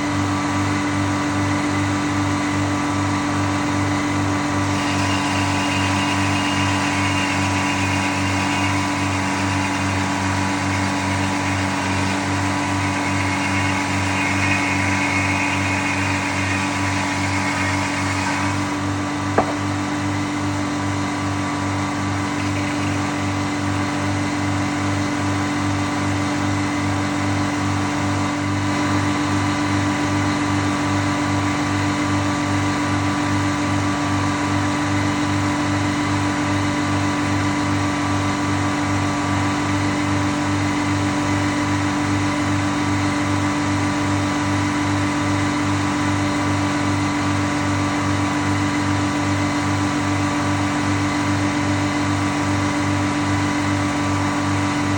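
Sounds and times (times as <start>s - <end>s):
sawmill humming and pulsing: 0.0s - 54.9s.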